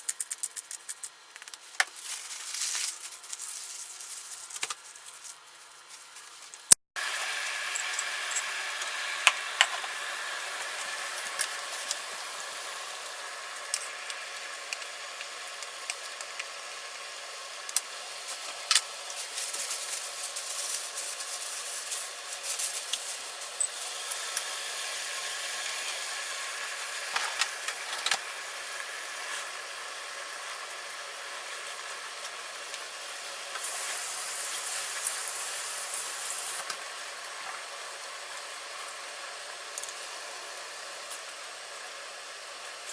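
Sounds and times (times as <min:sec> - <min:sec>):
food hissing on stove: 0:07.0 - 0:42.9.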